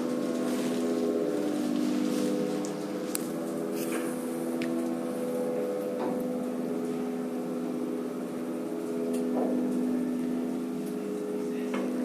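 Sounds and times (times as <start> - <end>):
electric lift machinery humming: 0.0 - 12.0.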